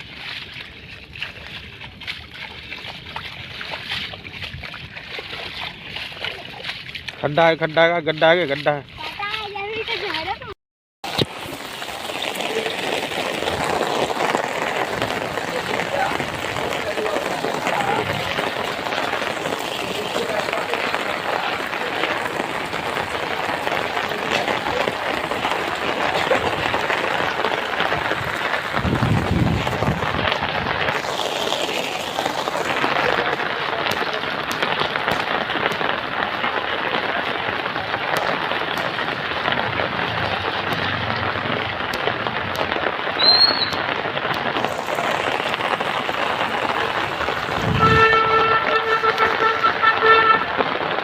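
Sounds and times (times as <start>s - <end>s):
heavy rain falling: 0.0s - 51.0s.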